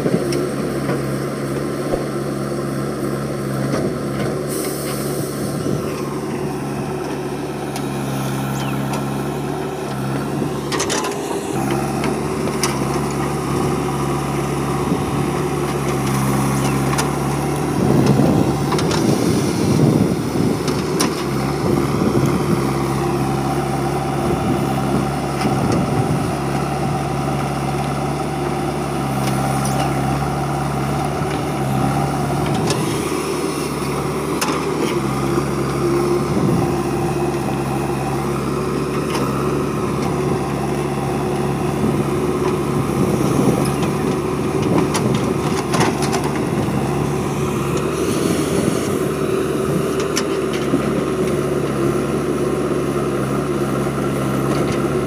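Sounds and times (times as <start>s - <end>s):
diesel engine running: 0.0s - 55.0s
digging and loading soil: 0.0s - 55.0s.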